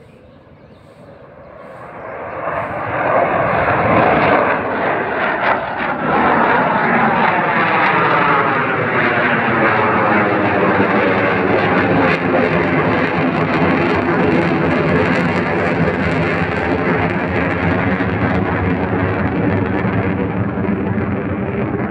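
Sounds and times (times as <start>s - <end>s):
jet engine roar: 0.0s - 21.9s.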